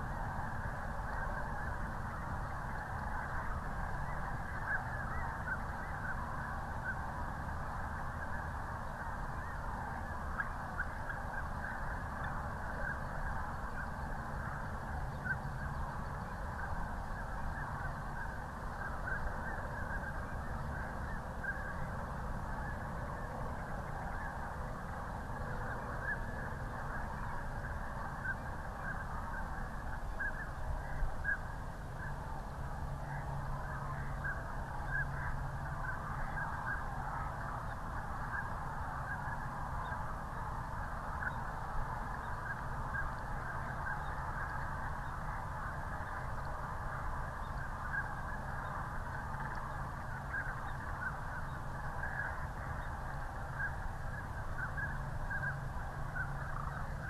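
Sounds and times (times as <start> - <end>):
geese and cranes calling: 0.0 - 57.0
low steady rumble: 0.0 - 57.0.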